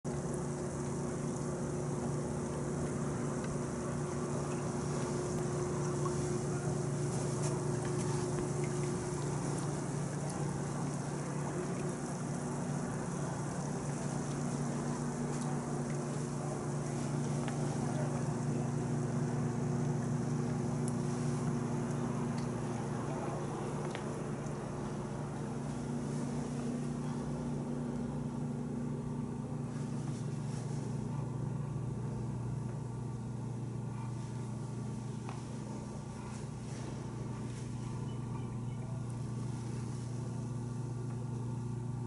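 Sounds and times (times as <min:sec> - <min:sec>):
pump motor hum: 0:00.0 - 0:42.0
water churning and bubbling: 0:00.0 - 0:42.0.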